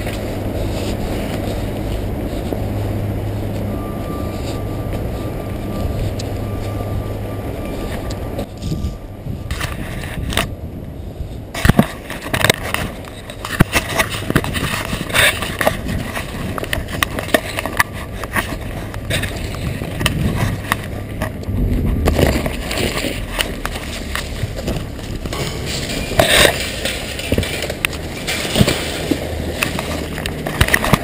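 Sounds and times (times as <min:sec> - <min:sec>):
leaves rustling: 0:00.0 - 0:31.0.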